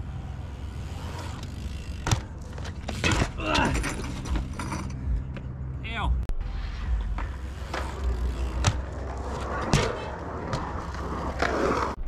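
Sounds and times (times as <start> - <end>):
bike clattering: 0.1 - 5.6, 7.0 - 12.0.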